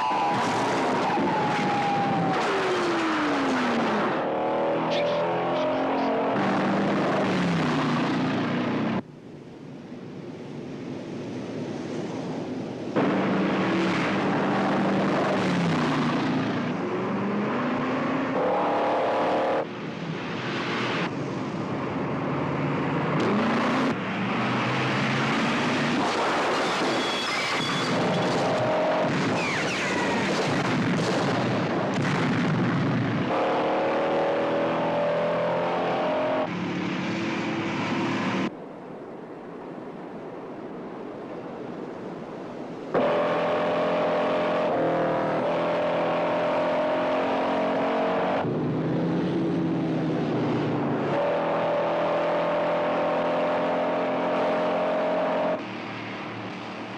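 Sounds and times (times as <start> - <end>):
car engines revving: 0.0 - 9.0, 12.8 - 38.5, 42.9 - 56.9
tyre and road noise: 0.0 - 56.9.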